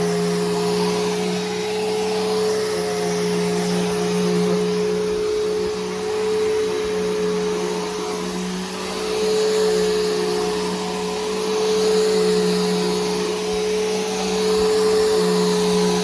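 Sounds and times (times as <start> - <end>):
vacuum cleaner motor hum: 0.0 - 16.0.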